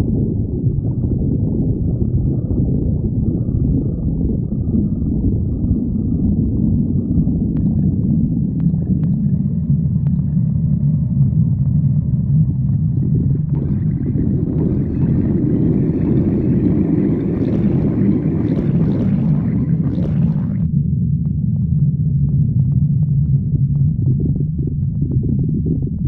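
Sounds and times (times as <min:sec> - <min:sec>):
stomach growling: 0:00.0 - 0:20.9, 0:21.8 - 0:26.0.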